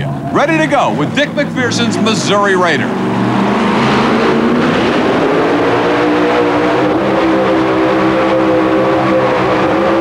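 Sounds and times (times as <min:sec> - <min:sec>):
supercharged engine at high revs: 0:00.1 - 0:10.0.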